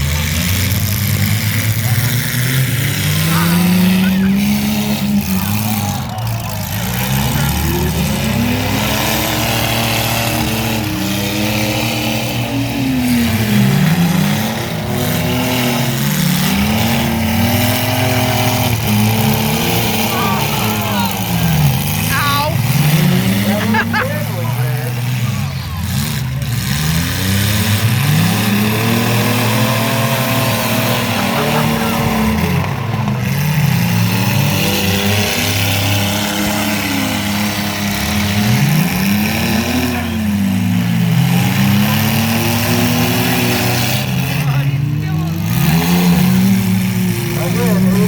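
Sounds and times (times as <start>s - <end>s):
mini truck engines revving: 0.0s - 48.0s.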